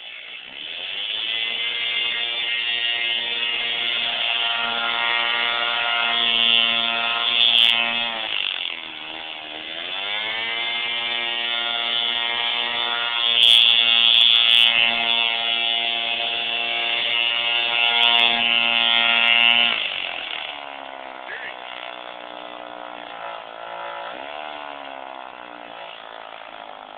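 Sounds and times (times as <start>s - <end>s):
two-stroke engine buzzing: 0.0s - 26.9s.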